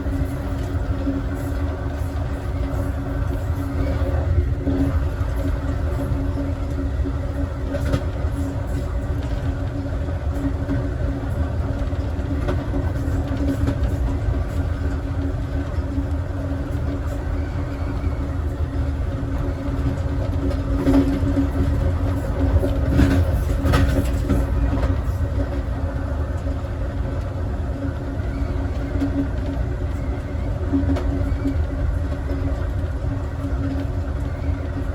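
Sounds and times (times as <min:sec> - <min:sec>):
train knocks and clatters: 0:00.0 - 0:34.9
train wheels rumbling on rail: 0:00.0 - 0:34.9.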